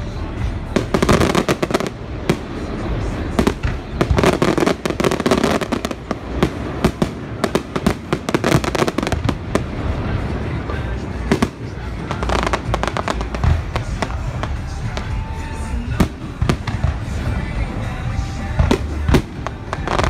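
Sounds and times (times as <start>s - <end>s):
continuous low rumble: 0.0s - 20.0s
fireworks bangs and crackles: 0.0s - 20.0s.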